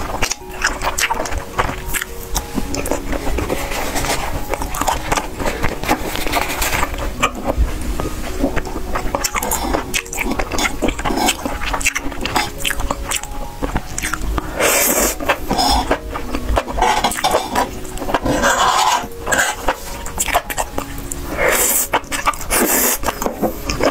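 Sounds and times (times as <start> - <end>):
wet chewing and slurping: 0.0 - 23.9.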